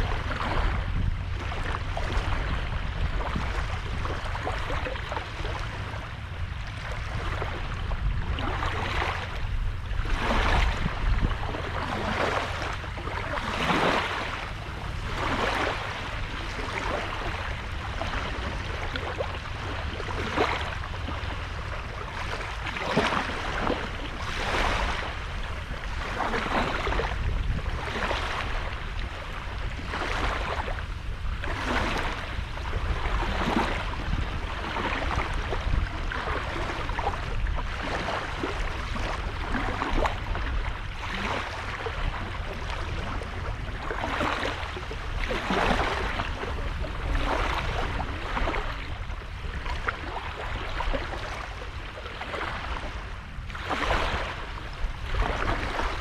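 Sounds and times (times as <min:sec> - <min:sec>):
steady low rumble: 0:00.0 - 0:52.0
small waves breaking on beach: 0:00.0 - 0:56.0.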